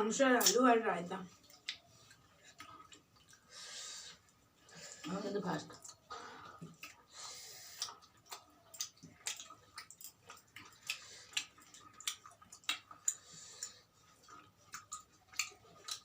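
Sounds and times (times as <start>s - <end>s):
chewing and eating: 0.4s - 16.0s.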